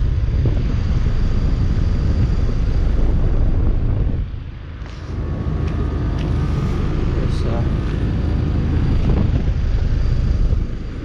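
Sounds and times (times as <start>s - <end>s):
faint steady whine: 0.0s - 11.0s
heat pump fan and compressor hum: 0.0s - 11.0s.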